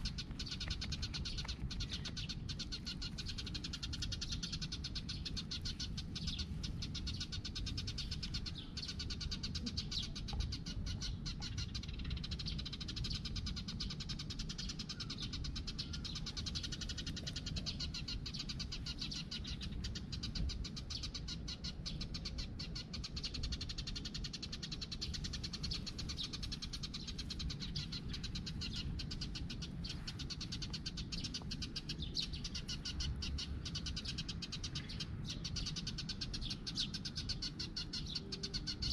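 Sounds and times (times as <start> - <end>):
low steady rumble: 0.0 - 38.9.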